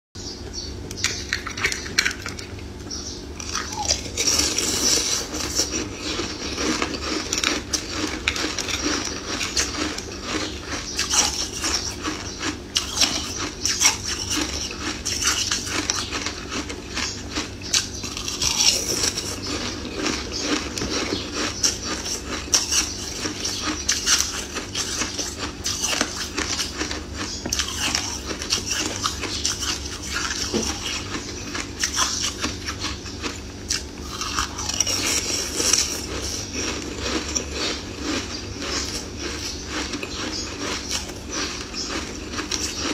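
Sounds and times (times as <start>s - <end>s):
ice crunching between teeth: 3.4s - 42.9s.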